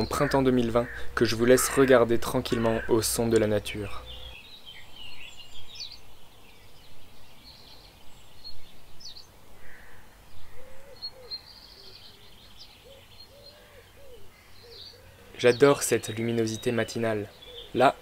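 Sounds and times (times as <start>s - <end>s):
lower repeated bird calls: 0.0s - 18.0s
small birds chirping and trilling: 0.0s - 18.0s.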